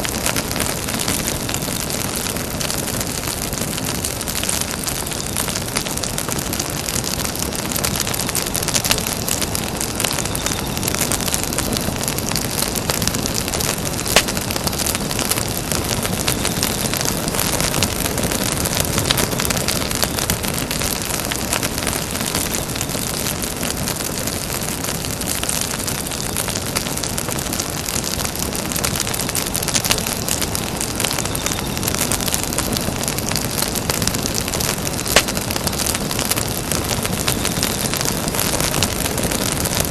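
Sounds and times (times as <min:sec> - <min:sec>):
campfire crackling: 0:00.0 - 0:39.9
sharp pops from fire: 0:00.0 - 0:39.9.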